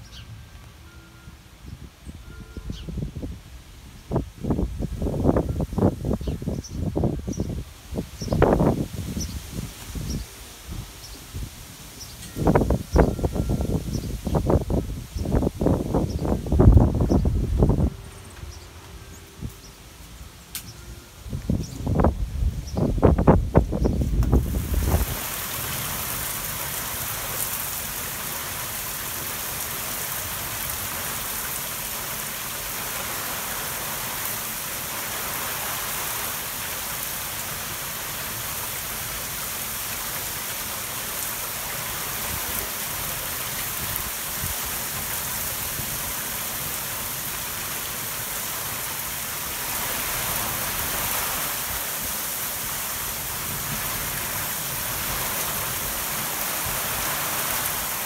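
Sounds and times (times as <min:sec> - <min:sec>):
heavy rain hissing: 0:03.8 - 0:58.0.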